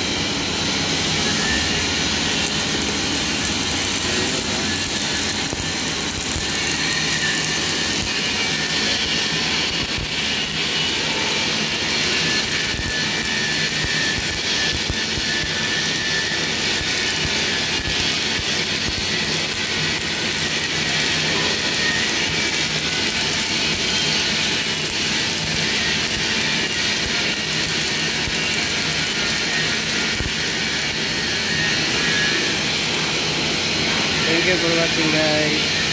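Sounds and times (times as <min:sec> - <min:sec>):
arc welding crackling hiss: 0:01.0 - 0:35.9.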